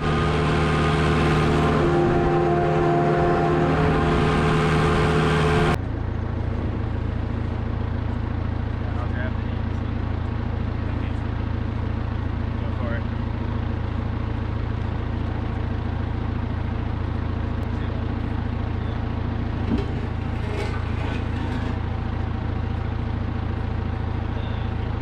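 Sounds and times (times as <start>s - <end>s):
farm vehicle engine droning: 0.0s - 25.0s.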